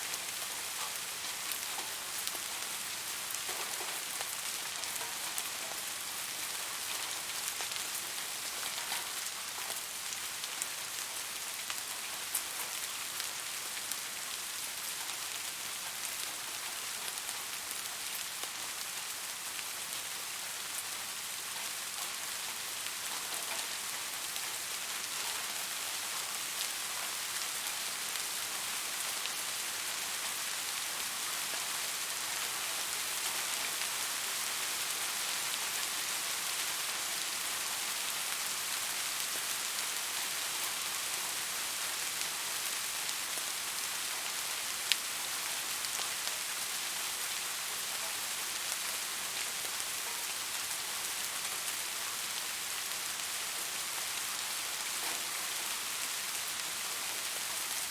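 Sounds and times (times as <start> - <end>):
steady rain hissing: 0.0 - 57.9.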